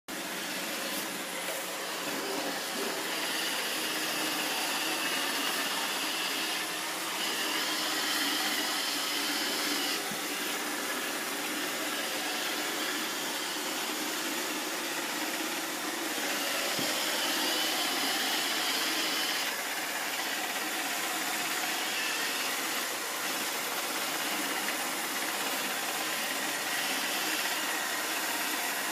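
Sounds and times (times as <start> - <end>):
robot vacuum whirring: 0.1 - 28.9.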